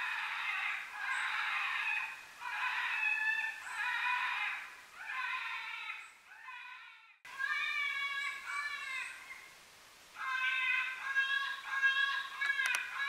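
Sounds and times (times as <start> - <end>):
wavering meowing animal cries: 0.0 - 9.5, 10.2 - 13.0.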